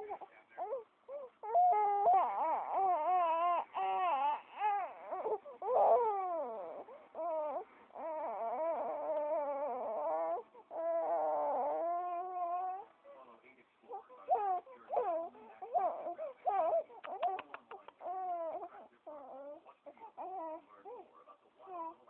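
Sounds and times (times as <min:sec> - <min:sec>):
baby crying and fussing: 0:00.0 - 0:12.9, 0:13.8 - 0:22.0.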